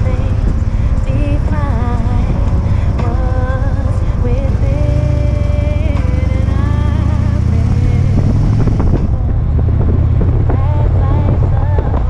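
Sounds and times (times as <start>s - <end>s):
motorcycle engine rumbling: 0.0s - 12.0s
wind noise on microphone: 0.0s - 12.0s.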